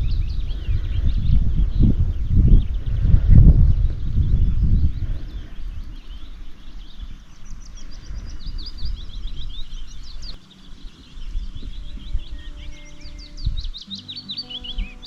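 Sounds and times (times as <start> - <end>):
low microphone rumble: 0.0 - 13.9
songbird chirps and trills: 0.0 - 15.0.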